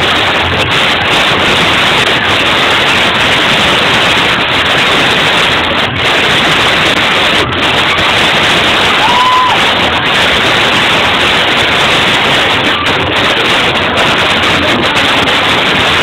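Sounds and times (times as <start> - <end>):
crowded party noise: 0.0 - 16.0.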